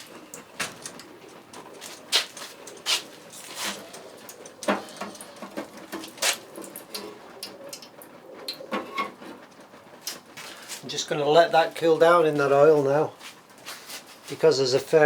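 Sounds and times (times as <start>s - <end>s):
oil crackling and popping: 0.0s - 12.5s.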